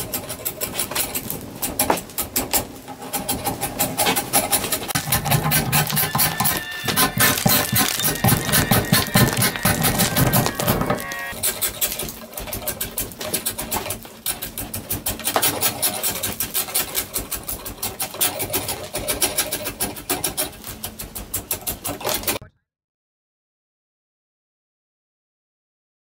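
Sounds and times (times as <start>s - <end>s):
draw knife scraping bark: 0.0s - 22.4s.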